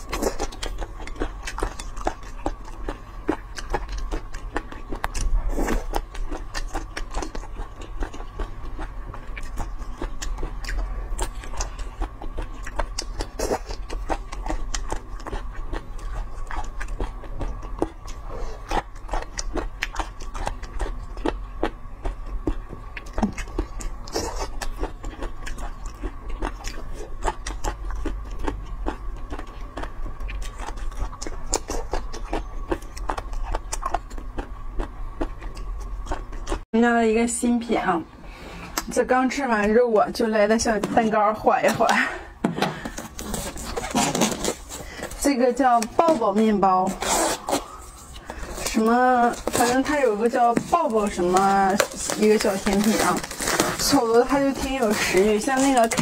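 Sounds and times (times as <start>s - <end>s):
close chewing and biting: 0.0s - 36.7s, 42.8s - 56.0s
faint hum: 0.0s - 56.0s.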